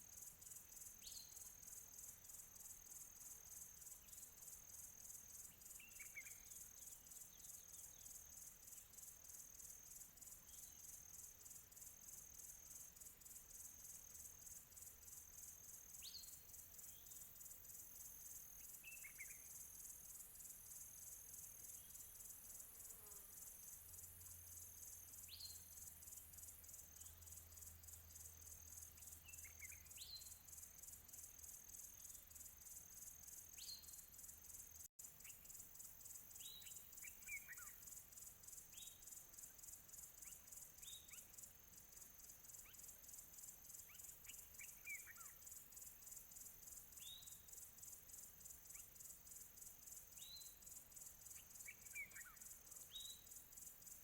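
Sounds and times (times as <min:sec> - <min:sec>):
pulsing insect chorus: 0:00.0 - 0:54.0.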